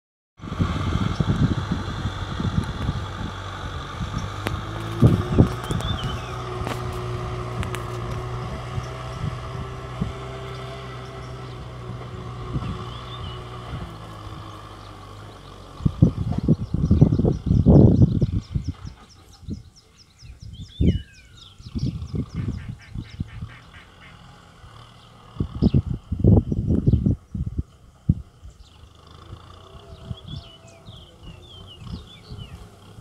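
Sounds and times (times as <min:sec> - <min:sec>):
wind rumbling on microphone: 0:00.4 - 0:24.0, 0:24.6 - 0:33.0
tractor diesel engine running: 0:00.4 - 0:33.0.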